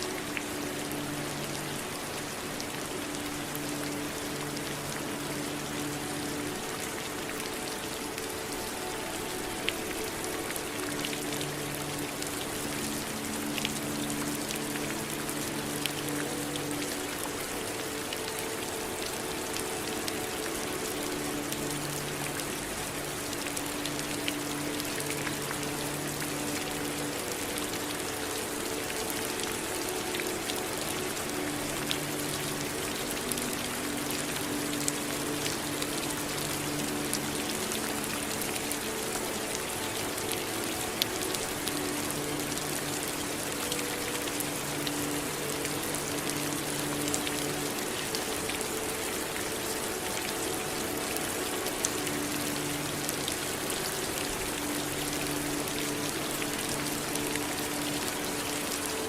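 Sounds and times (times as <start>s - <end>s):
faint low drone: 0.0s - 59.0s
raindrops ticking on a surface: 0.0s - 59.0s
steady rain hiss: 0.0s - 59.0s.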